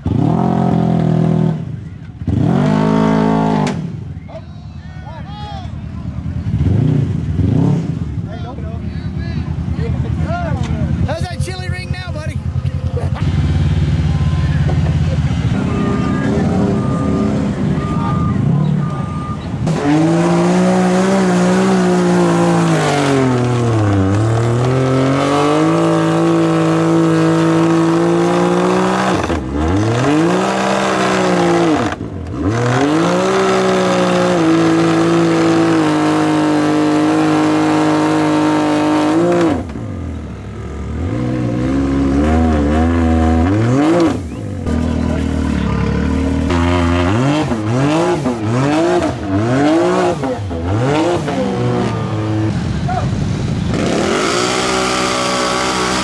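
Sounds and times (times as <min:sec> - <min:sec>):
engine revving: 0:00.0 - 0:04.1, 0:06.2 - 0:08.3, 0:09.4 - 0:56.0.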